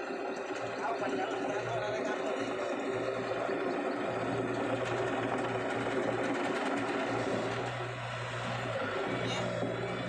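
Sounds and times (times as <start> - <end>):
machine engine clattering: 0.1 - 10.0.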